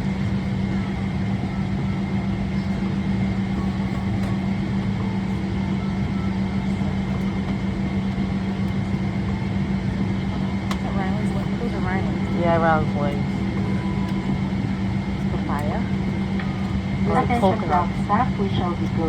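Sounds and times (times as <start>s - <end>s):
ventilation low hum: 0.0s - 19.0s.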